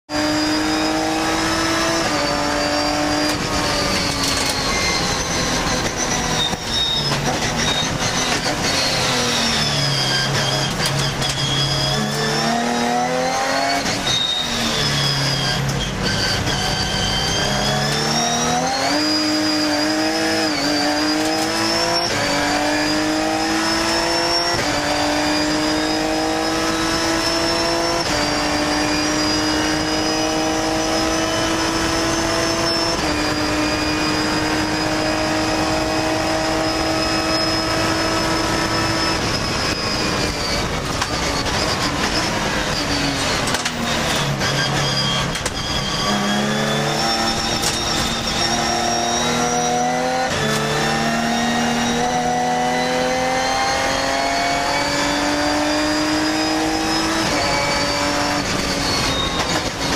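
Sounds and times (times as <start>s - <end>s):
race car engine revving: 0.1s - 59.9s.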